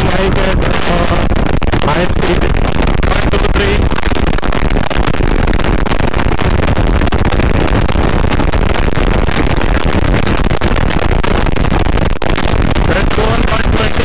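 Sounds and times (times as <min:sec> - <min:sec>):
wind buffeting a microphone: 0:00.0 - 0:14.0.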